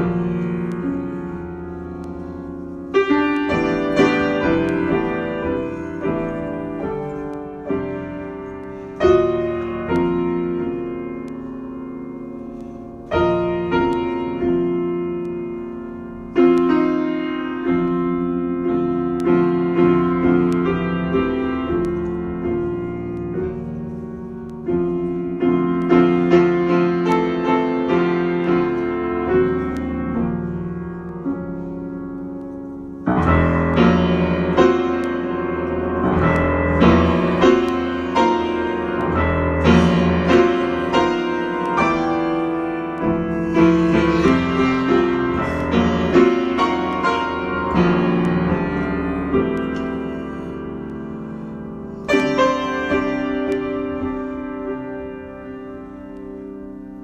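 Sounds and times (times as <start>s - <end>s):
solo piano chords and melody: 0.0s - 57.0s.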